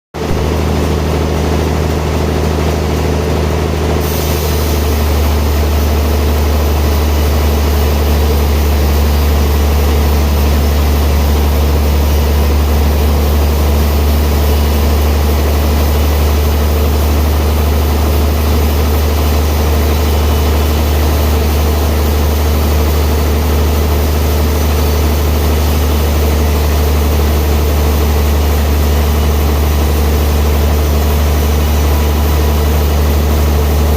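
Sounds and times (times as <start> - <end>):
hissy machine sound: 0.2 - 33.9
sawmill machinery humming: 0.2 - 33.9.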